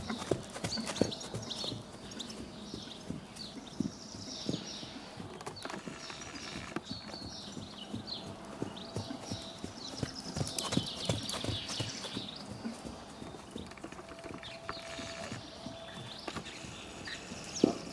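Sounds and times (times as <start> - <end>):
hoofbeats on sand: 0.0 - 17.9.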